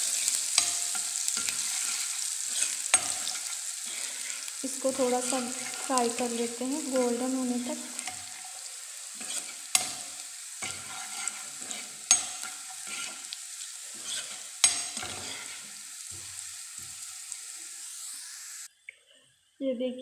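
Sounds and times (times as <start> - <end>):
spoon stirring and scraping pan: 0.0 - 17.6
ginger and garlic sizzling in oil: 0.0 - 18.7.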